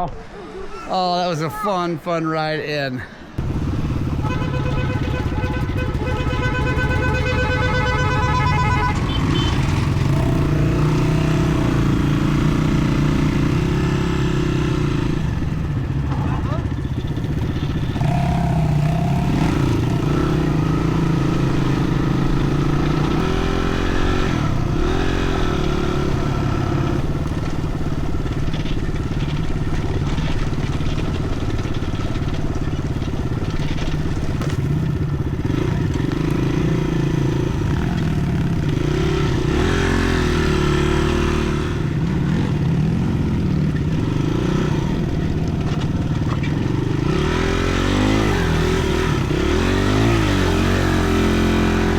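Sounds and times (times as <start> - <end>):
dirt bike engine revving: 3.4 - 51.9.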